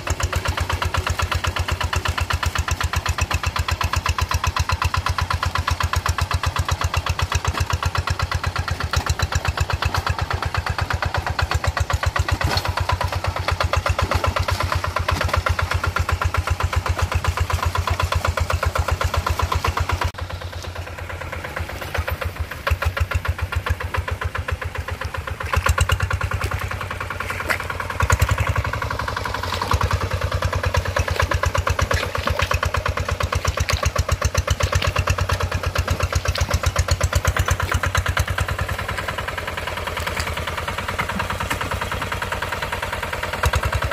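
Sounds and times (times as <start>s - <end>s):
tractor engine puttering: 0.0s - 43.9s.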